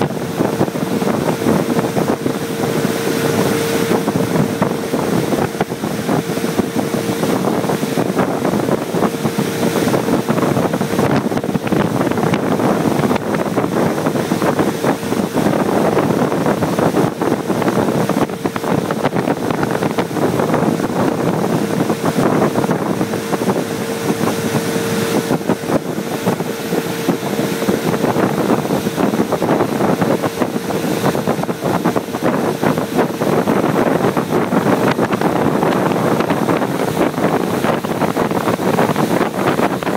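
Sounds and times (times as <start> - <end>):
motorboat engine whine: 0.0 - 39.9
rushing water: 0.0 - 39.9
wind buffeting microphone: 0.0 - 39.9.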